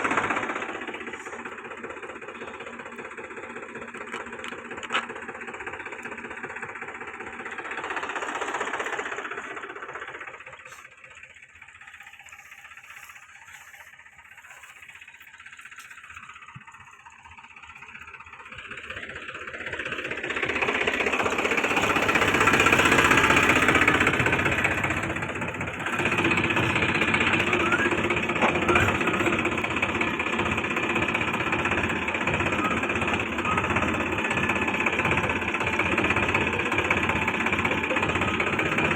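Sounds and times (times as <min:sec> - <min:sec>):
diesel tractor engine knocking: 0:00.0 - 0:38.9.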